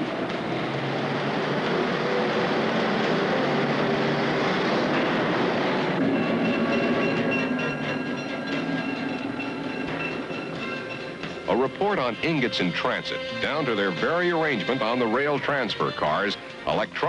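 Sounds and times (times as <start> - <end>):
train rail rumble and clatter: 0.0 - 17.0
high wheel squeal: 0.7 - 16.9.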